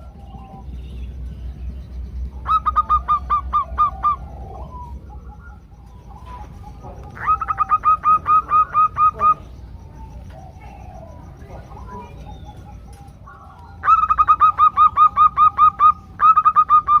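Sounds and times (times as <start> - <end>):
doves calling: 0.0 - 17.0
low hum: 0.0 - 17.0.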